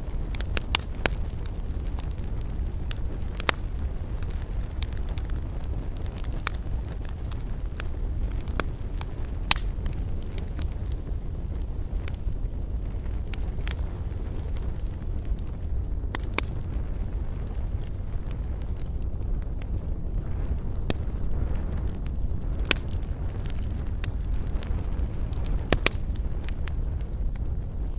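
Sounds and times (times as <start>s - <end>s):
sharp pops of fire: 0.0s - 27.9s
wood fire crackling: 0.0s - 27.9s.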